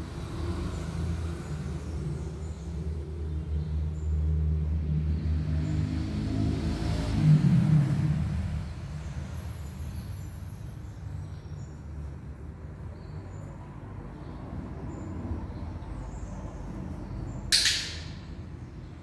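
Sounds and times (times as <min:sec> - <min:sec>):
vehicle passing by: 0:00.0 - 0:19.0.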